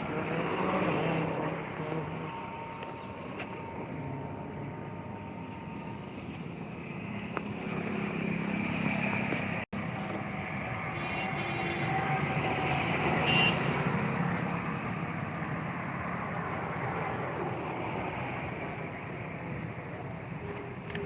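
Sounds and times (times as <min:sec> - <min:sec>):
engine and traffic hum: 0:00.0 - 0:21.0.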